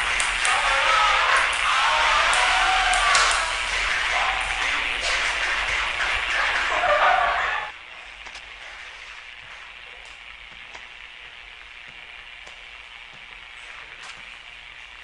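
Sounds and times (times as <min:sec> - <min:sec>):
faint clicks and crackles: 0:00.0 - 0:06.3, 0:07.7 - 0:15.0
steady hiss: 0:00.0 - 0:15.0.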